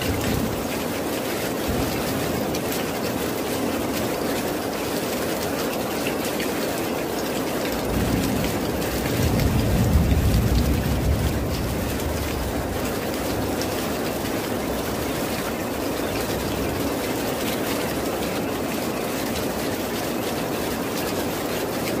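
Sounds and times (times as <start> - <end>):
raindrop ticks: 0.0 - 22.0
steady rain hiss: 0.0 - 22.0.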